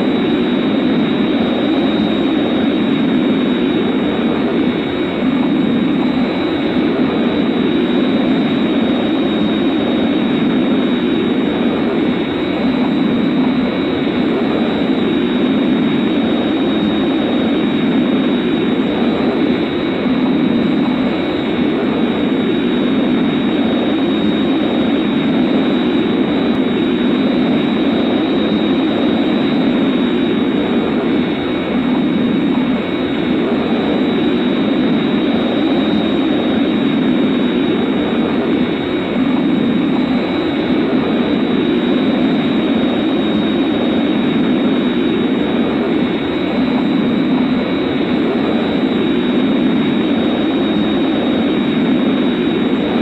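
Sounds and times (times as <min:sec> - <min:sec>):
jet-like roar: 0:00.0 - 0:53.0
thin high whine: 0:00.0 - 0:53.0.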